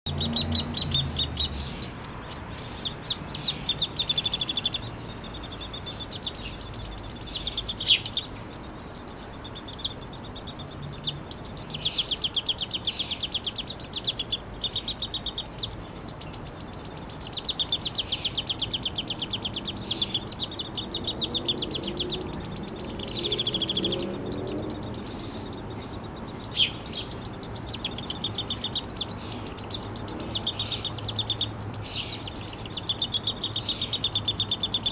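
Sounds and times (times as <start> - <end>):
woodpecker nestling begging calls: 0.1 - 34.9.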